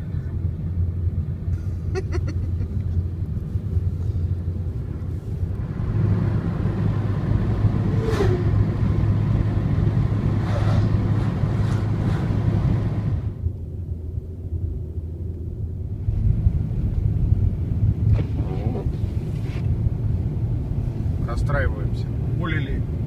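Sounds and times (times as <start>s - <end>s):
car cabin road and engine rumble: 0.0s - 23.0s.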